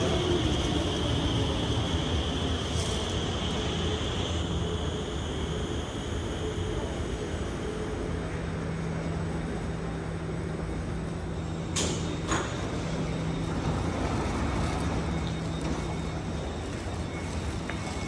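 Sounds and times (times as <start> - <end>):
metro train electrical hum: 0.0 - 18.0.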